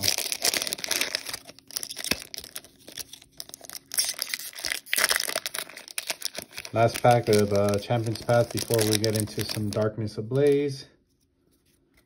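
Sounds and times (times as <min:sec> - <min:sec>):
foil wrapper crinkling and tearing: 0:00.0 - 0:10.7.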